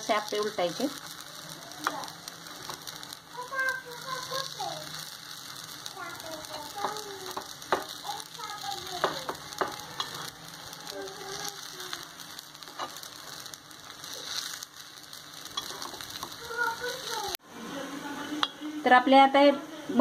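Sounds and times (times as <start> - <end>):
dumplings sizzling in oil: 0.0 - 20.0.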